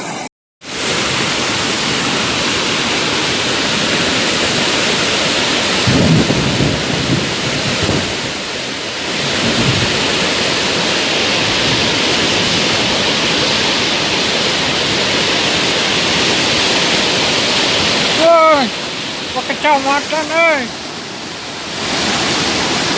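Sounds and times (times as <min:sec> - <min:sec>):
river water rushing: 0:00.0 - 0:06.0, 0:07.0 - 0:22.9.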